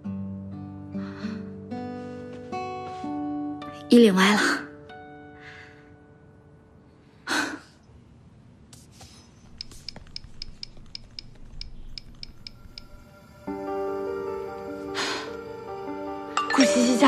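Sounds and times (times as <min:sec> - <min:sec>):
soft background music: 0:00.0 - 0:07.8, 0:08.8 - 0:17.0.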